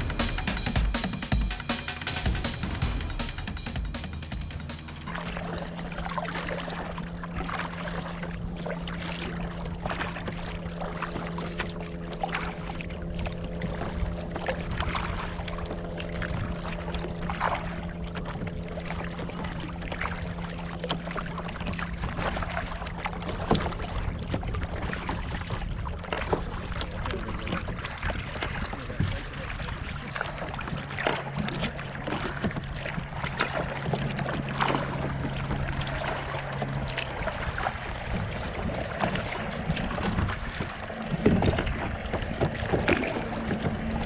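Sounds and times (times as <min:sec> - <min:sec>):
water splashing against kayak hull: 0:00.0 - 0:44.0.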